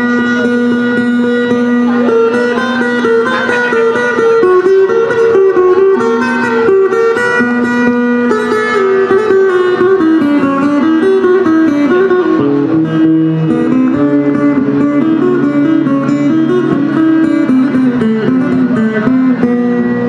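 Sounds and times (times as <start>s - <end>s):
fingerstyle acoustic guitar: 0.0s - 20.0s.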